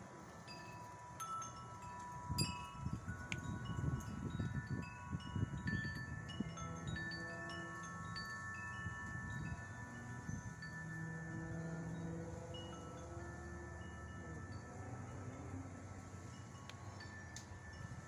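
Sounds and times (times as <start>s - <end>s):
wind chimes ringing: 0.0s - 18.0s.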